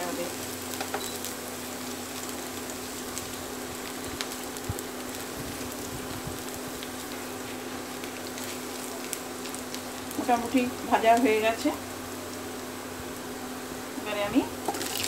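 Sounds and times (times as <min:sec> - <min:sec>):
garlic and ginger sizzling in oil: 0:00.0 - 0:15.0.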